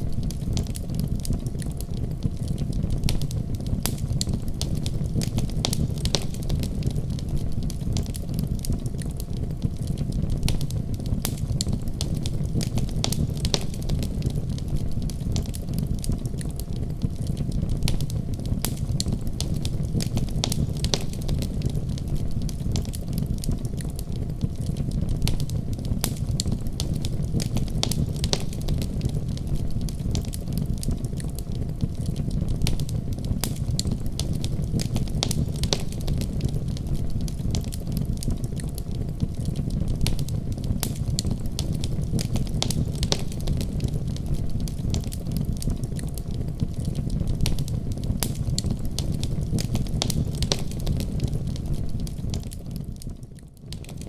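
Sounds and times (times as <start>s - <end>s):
fire crackling: 0.0s - 54.0s.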